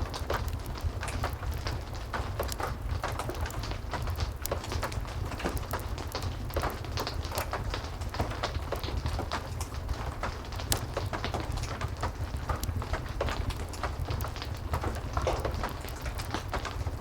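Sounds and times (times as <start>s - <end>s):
heavy rain falling: 0.0s - 17.0s
wood fire crackling: 0.0s - 17.0s.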